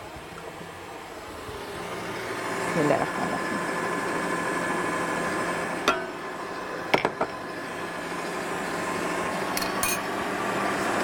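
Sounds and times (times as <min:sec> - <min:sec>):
stand mixer motor humming: 0:00.5 - 0:11.0.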